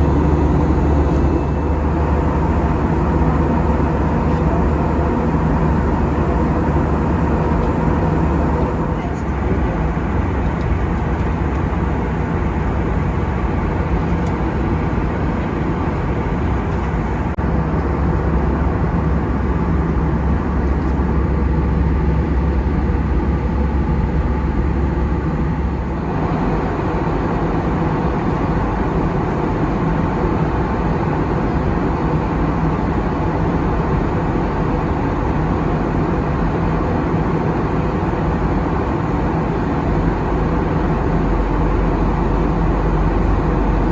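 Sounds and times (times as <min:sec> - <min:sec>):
low engine drone: 0:00.0 - 0:43.9
rush of air in aircraft cabin: 0:00.0 - 0:43.9.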